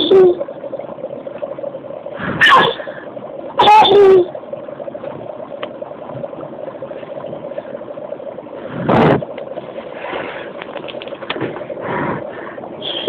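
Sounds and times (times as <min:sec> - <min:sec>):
dry ice bubbling and hissing: 0:00.0 - 0:13.0.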